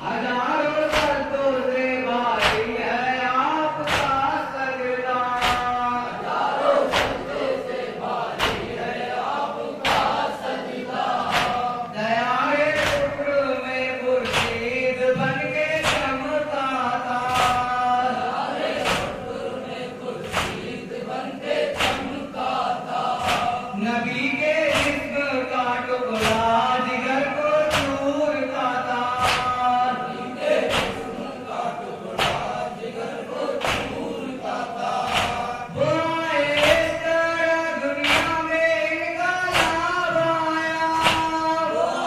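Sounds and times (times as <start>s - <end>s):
group chanting: 0.0s - 42.0s.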